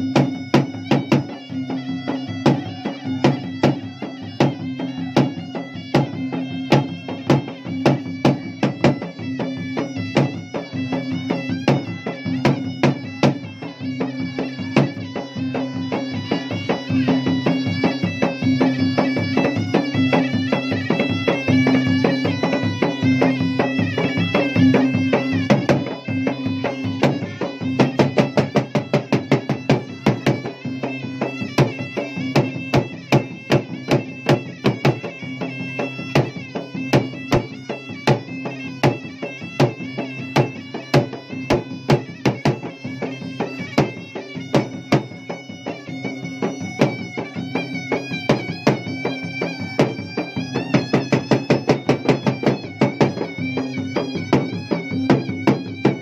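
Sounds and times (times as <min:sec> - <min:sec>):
drums beaten with sticks: 0:00.0 - 0:56.0
reedy shawm melody: 0:00.0 - 0:56.0.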